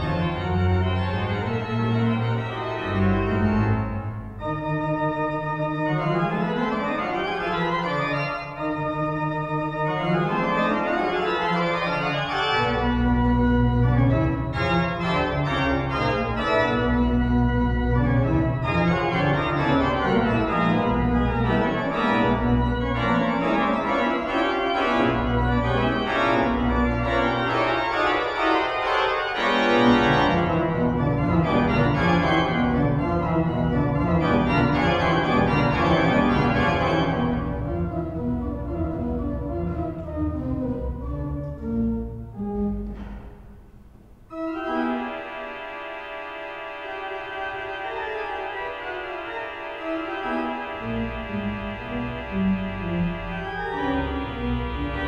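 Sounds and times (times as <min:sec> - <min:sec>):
deep organ pedal notes: 0:00.0 - 0:55.0
pipe organ playing: 0:00.0 - 0:55.0.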